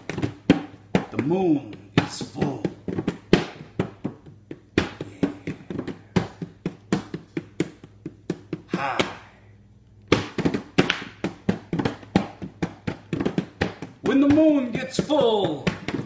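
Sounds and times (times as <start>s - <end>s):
hand drumming on plastic container: 0.0s - 9.3s, 10.1s - 16.0s.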